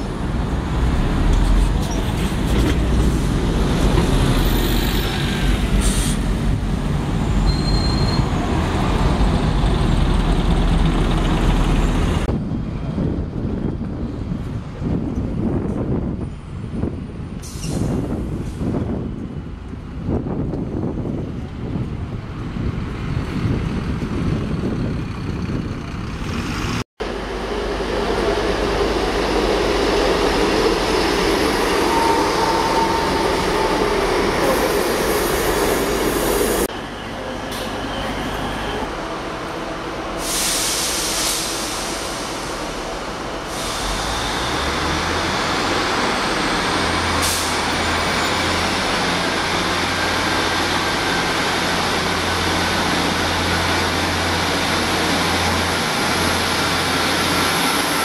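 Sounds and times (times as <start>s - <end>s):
bus pulling away: 0.0s - 12.3s, 22.5s - 58.0s.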